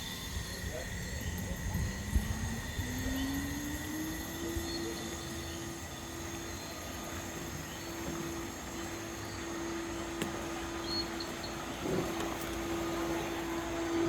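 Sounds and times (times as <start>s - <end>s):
high-pitched insect drone: 0.0s - 11.7s
steady low hum: 0.0s - 14.0s.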